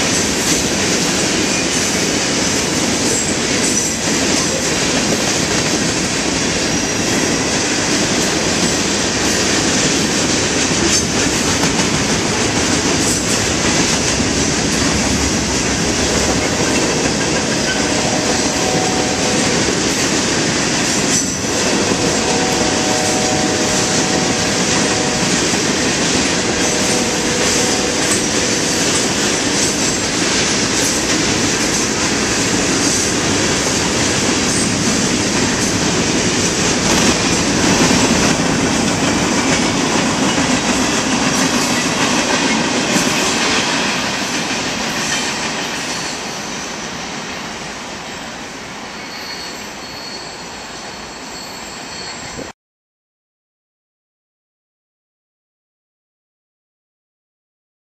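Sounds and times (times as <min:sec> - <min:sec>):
train wheels rolling on rail: 0:00.0 - 0:52.5.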